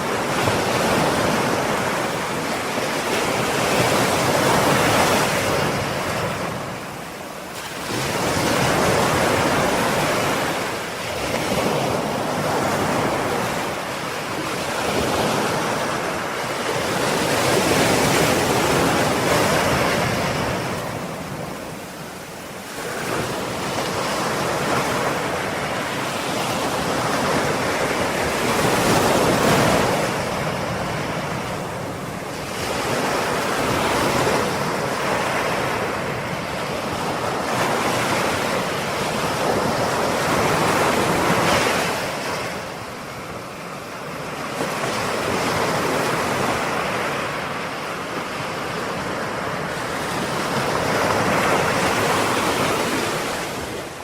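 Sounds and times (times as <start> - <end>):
ocean waves breaking: 0.0 - 54.0
wind on microphone: 0.0 - 54.0.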